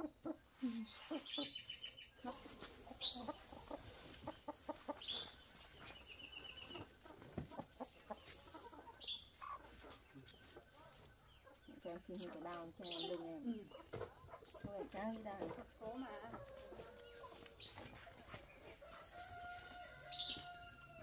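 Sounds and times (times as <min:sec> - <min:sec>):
chickens clucking: 0:00.0 - 0:21.0
chickens squawking: 0:00.0 - 0:21.0.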